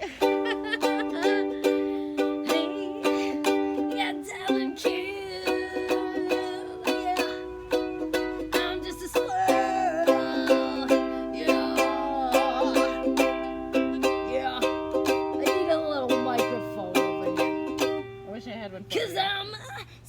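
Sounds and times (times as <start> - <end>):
ukulele strumming: 0.0 - 18.6.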